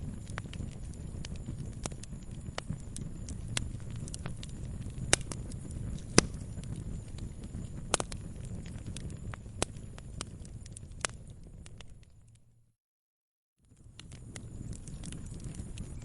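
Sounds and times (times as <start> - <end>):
fire crackling and popping: 0.0 - 12.5, 13.6 - 16.0
low rumble of burning: 0.0 - 12.8, 13.6 - 16.0.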